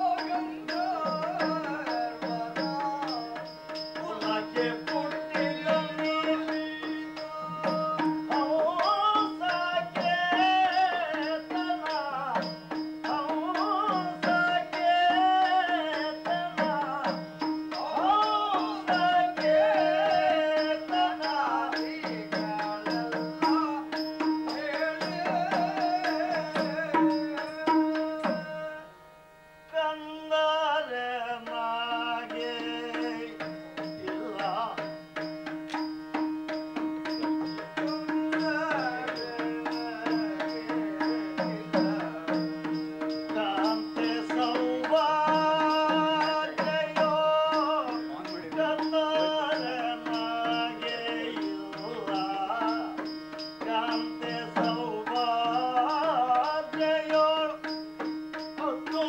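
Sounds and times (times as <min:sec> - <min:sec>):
small hand cymbals: 0:00.0 - 0:28.8, 0:32.3 - 0:59.0
person singing: 0:00.0 - 0:29.0, 0:29.7 - 0:35.8, 0:37.2 - 0:59.0.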